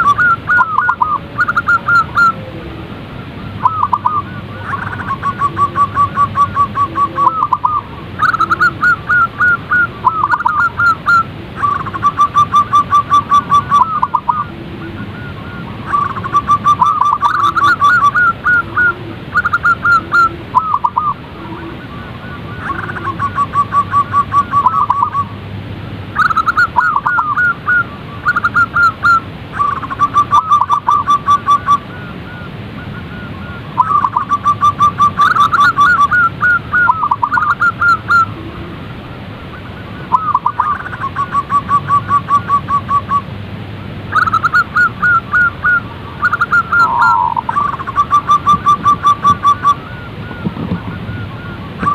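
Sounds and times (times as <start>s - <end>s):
doves cooing staccato notes: 0.0s - 51.9s.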